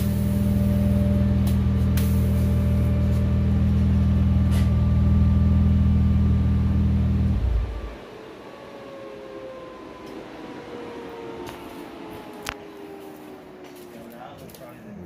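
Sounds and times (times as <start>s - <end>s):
faint whines falling in pitch: 0.0s - 15.0s
low mechanical drone: 0.0s - 15.0s.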